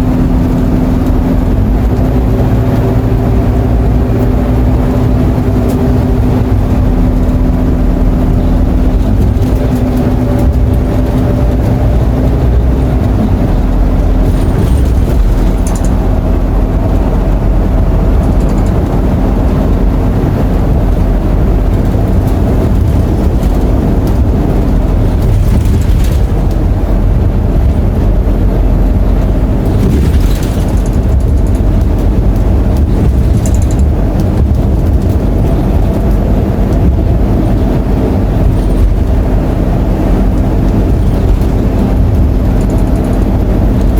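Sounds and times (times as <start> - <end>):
bus diesel engine droning: 0.0 - 43.9
road and body rumble: 0.0 - 43.9.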